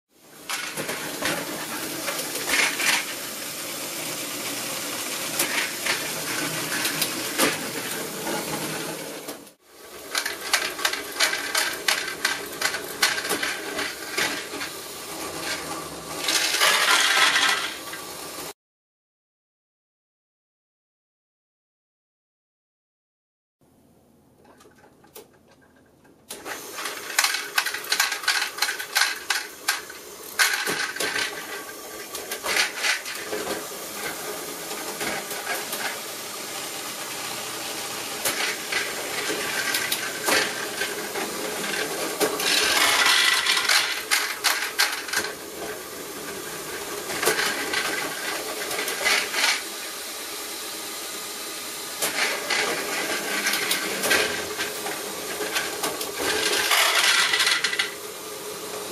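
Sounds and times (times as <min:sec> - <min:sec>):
toy train clicking and clattering: 0:00.3 - 0:09.0, 0:09.9 - 0:18.2, 0:24.4 - 0:50.0, 0:51.8 - 0:58.9.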